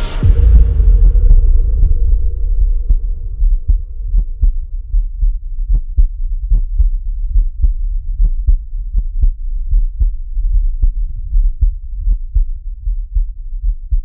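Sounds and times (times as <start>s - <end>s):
deep bass heartbeat pulses: 0.0s - 14.0s.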